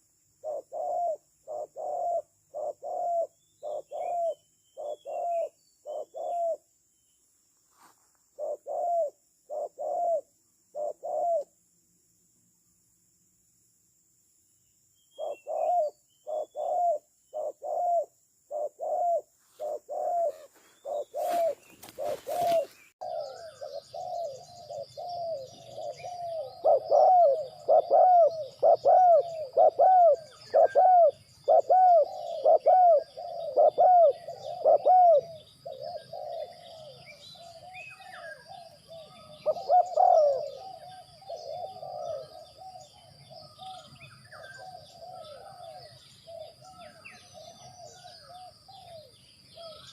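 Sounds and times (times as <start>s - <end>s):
doves cooing: 0.4s - 6.6s, 8.4s - 11.5s, 15.2s - 49.9s.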